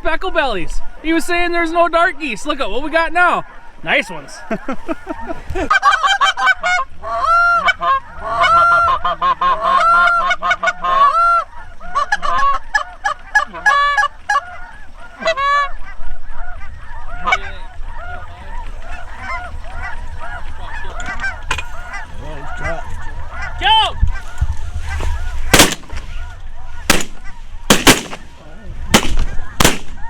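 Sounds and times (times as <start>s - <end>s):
goose honking: 0.9s - 30.0s.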